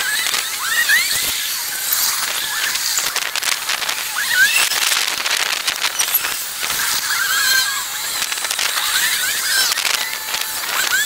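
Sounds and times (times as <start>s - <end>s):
rapid crackling clicks: 0.0s - 11.0s
squeaky chirps: 0.0s - 11.0s.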